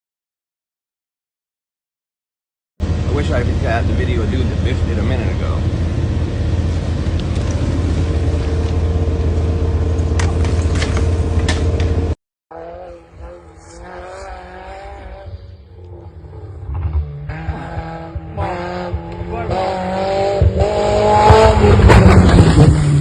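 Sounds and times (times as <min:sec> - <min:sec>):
road vehicle rumble: 0:02.8 - 0:23.0.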